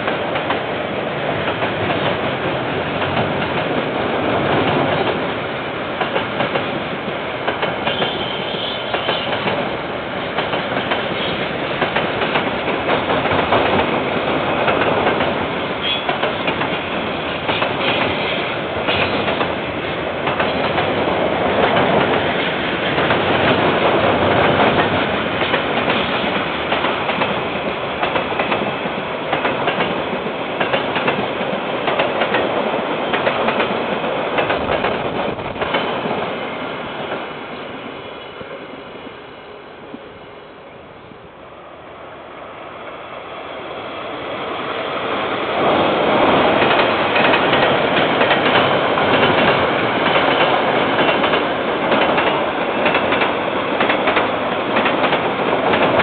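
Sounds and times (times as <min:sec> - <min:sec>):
train wheels rumbling on rails: 0:00.0 - 0:39.2, 0:42.4 - 0:56.0.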